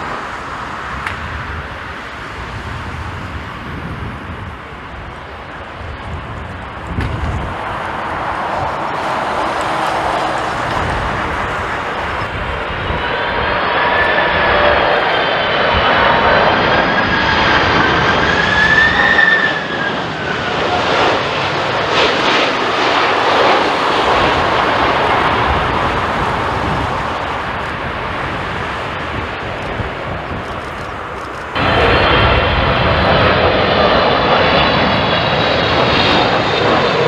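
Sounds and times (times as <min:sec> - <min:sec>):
jet airliner engines roaring: 0:00.0 - 0:37.0.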